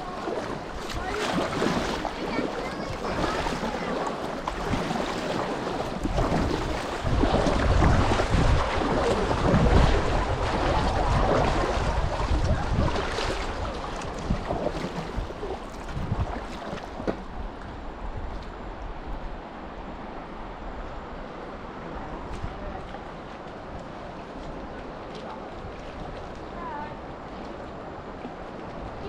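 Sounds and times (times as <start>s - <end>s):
creek water rushing: 0.0s - 29.0s
wind buffeting microphone: 0.0s - 29.0s.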